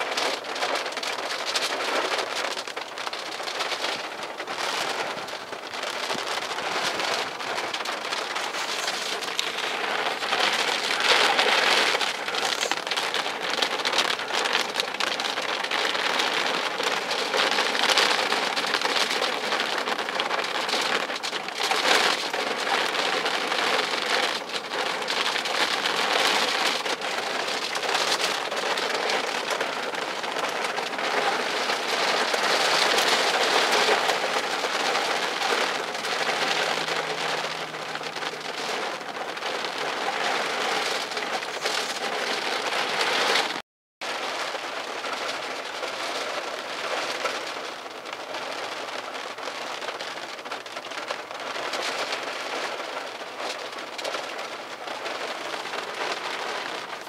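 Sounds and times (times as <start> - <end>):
heavy rain beating on glass: 0.0 - 57.0.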